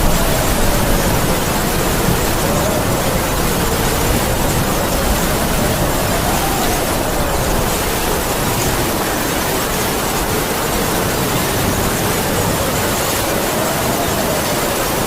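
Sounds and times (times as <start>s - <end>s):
heavy rain falling: 0.0s - 15.0s
howling wind: 0.0s - 15.0s.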